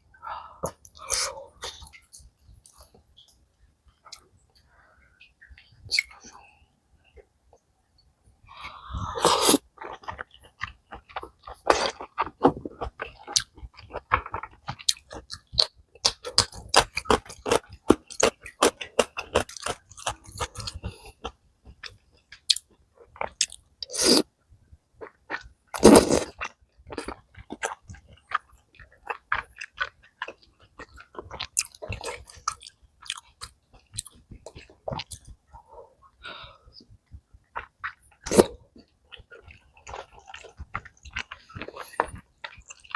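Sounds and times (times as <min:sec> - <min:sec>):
person chewing food: 0:00.4 - 0:06.5, 0:08.5 - 0:24.3, 0:25.0 - 0:42.9.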